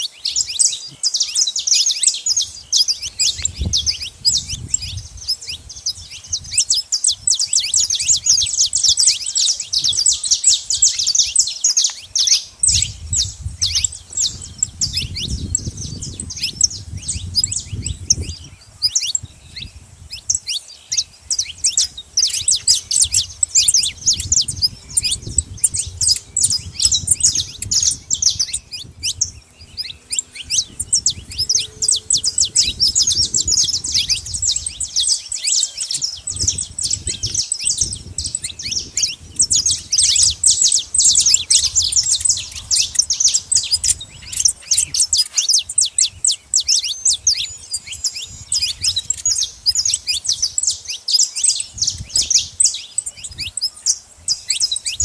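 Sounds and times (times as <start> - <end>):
finches chirping and chattering: 0.0 - 55.0.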